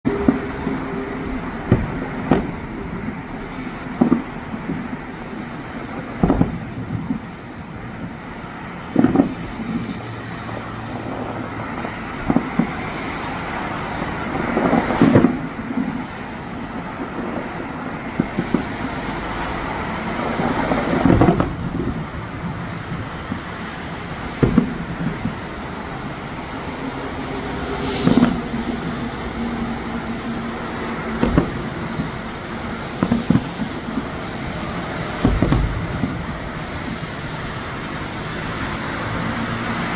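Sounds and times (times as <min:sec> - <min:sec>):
steady rumbling background noise: 0:00.0 - 0:39.9
fireworks booming: 0:00.1 - 0:39.9.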